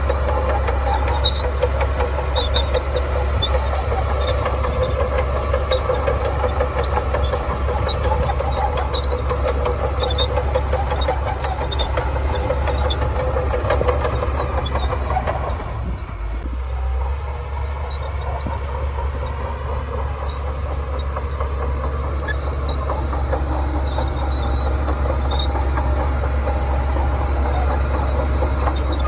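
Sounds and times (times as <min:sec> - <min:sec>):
bulldozer diesel engine rumbling: 0:00.0 - 0:29.0.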